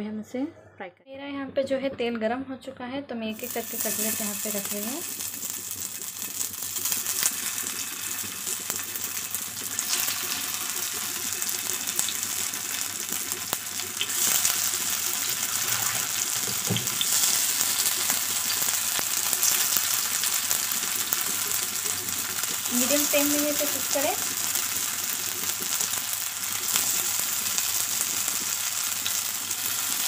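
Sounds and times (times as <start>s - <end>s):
patties sizzling in hot oil: 3.4s - 30.0s.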